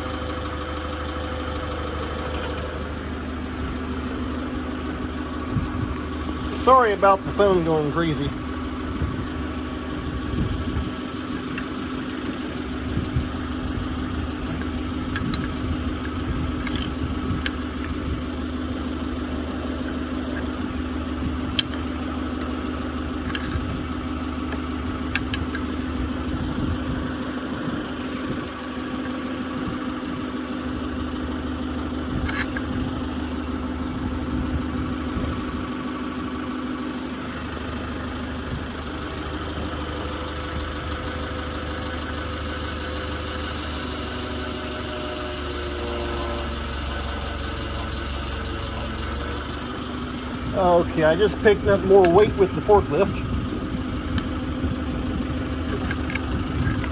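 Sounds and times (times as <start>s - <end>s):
forklift engine idling: 0.0s - 56.9s.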